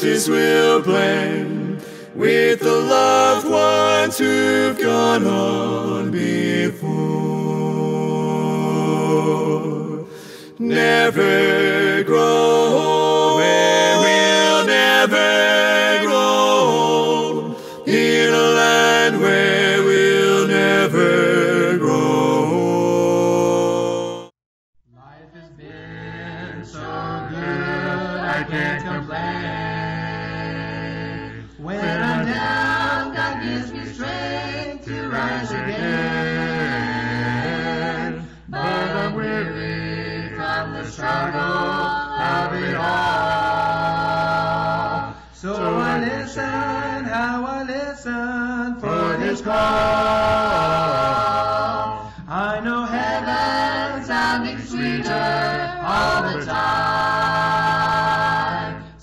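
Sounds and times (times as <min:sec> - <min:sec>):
vocal group singing in harmony: 0:00.0 - 0:24.4, 0:25.0 - 0:59.0.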